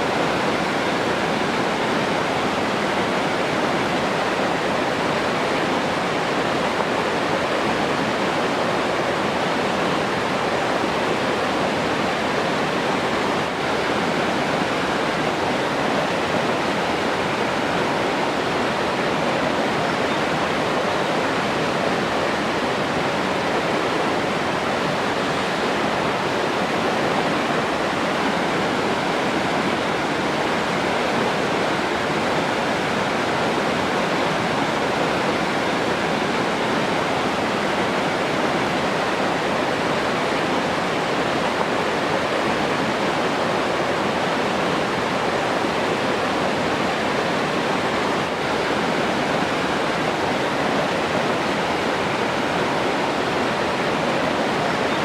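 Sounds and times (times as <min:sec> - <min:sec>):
rushing flowing water: 0:00.0 - 0:55.0.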